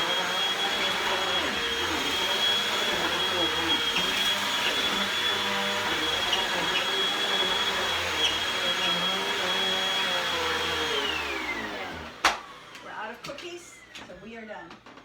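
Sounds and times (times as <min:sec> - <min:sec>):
vacuum cleaner whining: 0:00.0 - 0:15.0.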